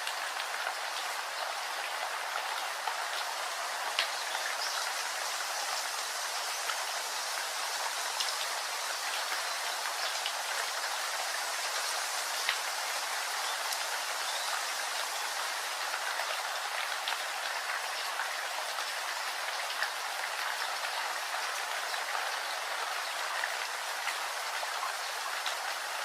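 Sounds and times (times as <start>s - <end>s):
raindrops striking close by: 0.0s - 26.0s
steady rain: 0.0s - 26.0s.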